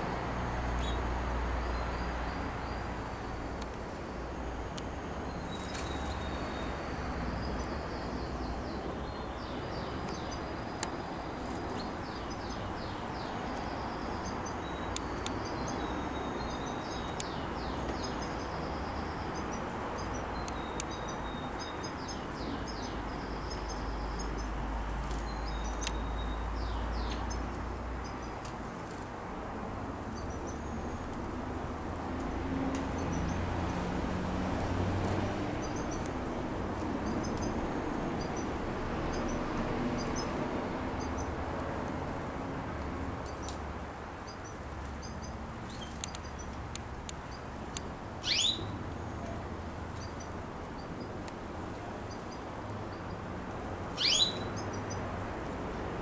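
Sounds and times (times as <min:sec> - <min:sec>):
canaries chirping and trilling: 0:00.0 - 0:02.9, 0:05.3 - 0:29.1, 0:32.4 - 0:55.2
steady background hiss: 0:00.0 - 0:56.0.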